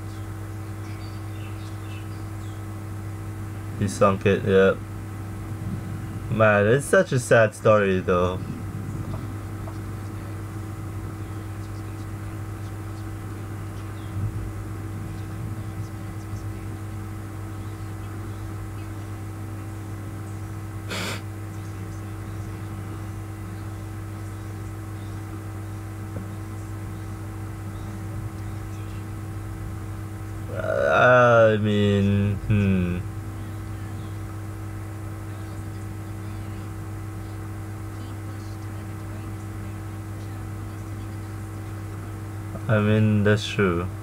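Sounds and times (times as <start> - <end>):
faint constant tones: 0.0 - 44.0
low room hum: 0.0 - 44.0.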